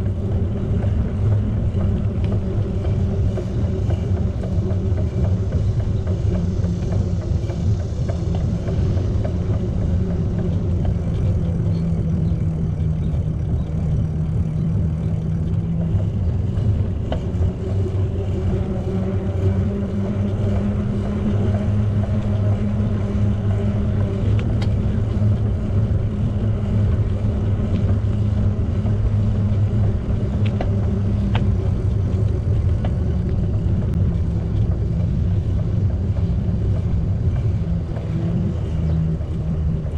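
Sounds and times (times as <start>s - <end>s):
bicycle tyres rolling: 0.0s - 39.9s
faint ticks: 0.0s - 39.9s.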